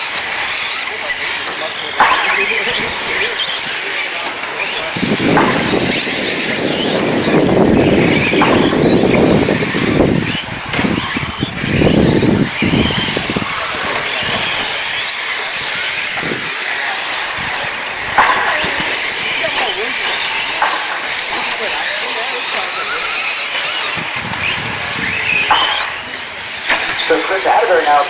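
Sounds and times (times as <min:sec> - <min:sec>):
rc truck motor whines: 0:00.0 - 0:28.0
tyre and track noise: 0:00.0 - 0:28.0.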